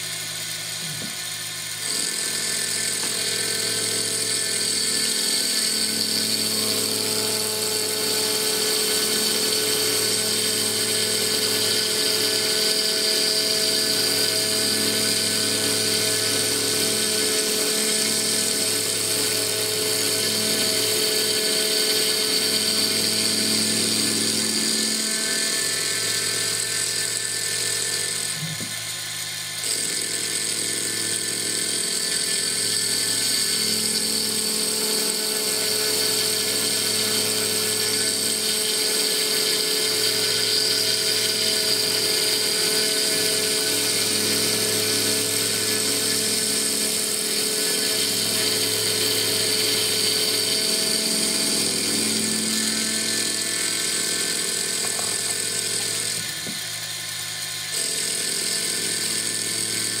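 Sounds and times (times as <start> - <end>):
mill spindle whining: 0.0 - 60.0
wood being machined: 0.0 - 60.0.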